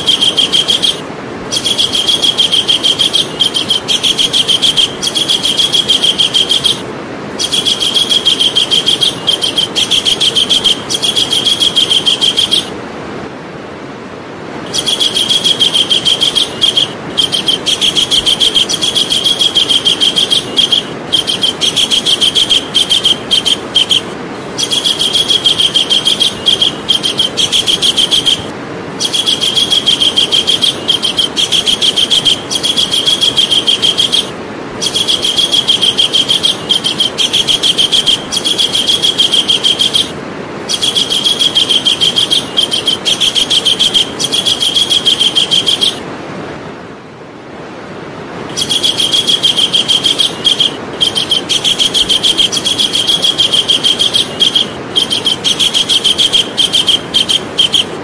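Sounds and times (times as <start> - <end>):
kingfisher chattering call: 0.0 - 12.8, 14.7 - 46.0, 48.5 - 58.0
steady background hiss: 0.0 - 58.0.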